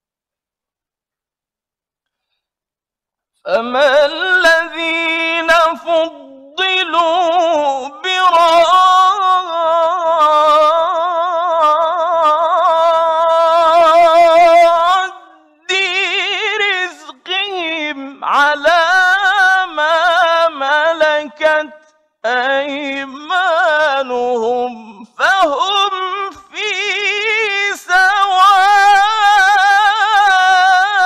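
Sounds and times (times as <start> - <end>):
man chanting melodically: 3.5 - 31.0.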